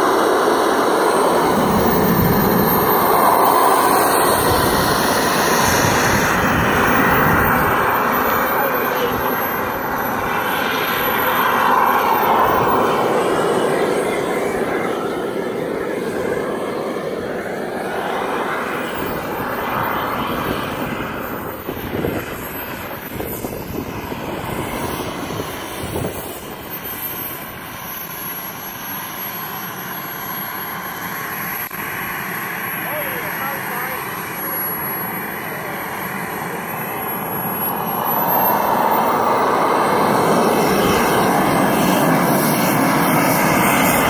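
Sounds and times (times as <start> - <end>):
model jet turbine engine running: 0.0 - 44.0.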